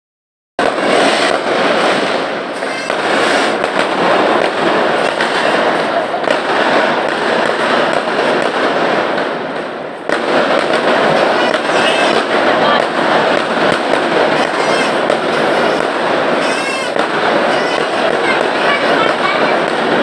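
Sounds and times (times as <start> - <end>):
firecrackers crackling: 0.6 - 20.0.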